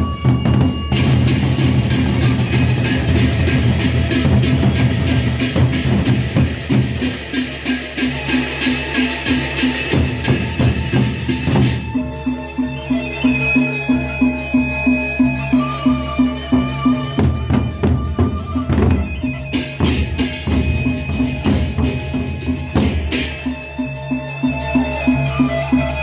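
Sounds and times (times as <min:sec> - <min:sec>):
gongs: 0:00.0 - 0:26.0
hand cymbals clashing: 0:00.0 - 0:26.0.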